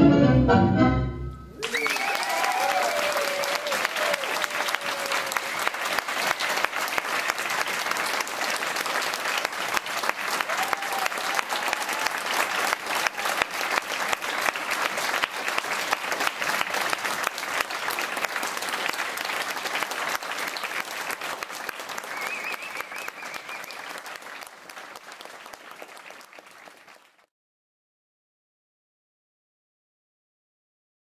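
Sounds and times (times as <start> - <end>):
audience applauding: 1.6 - 27.3.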